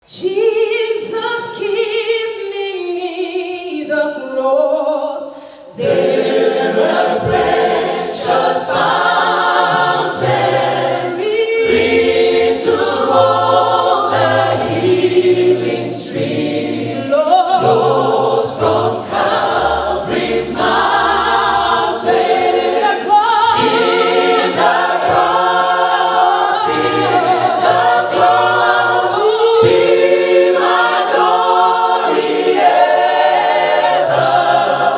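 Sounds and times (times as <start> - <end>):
choir singing a cappella: 0.0 - 34.9.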